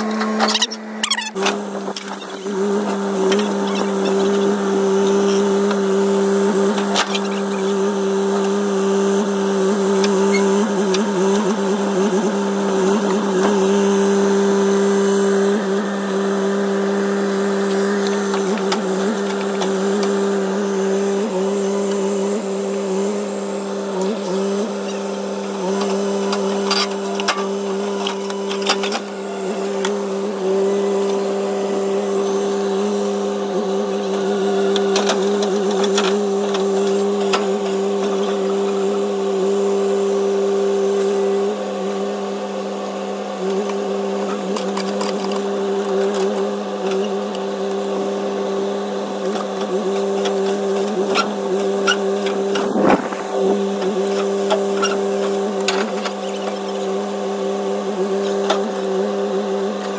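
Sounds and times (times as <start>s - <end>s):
steady motor drone: 0.0s - 59.9s.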